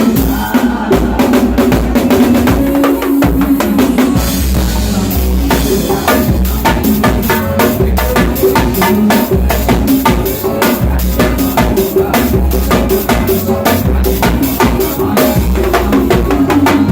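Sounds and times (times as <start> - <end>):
drum kit playing: 0.0 - 16.9
recorded song: 0.0 - 16.9.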